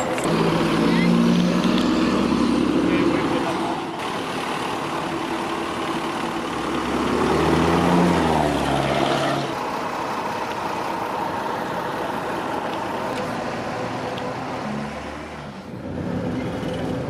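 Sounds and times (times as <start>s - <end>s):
vehicle engines running: 0.0s - 17.0s.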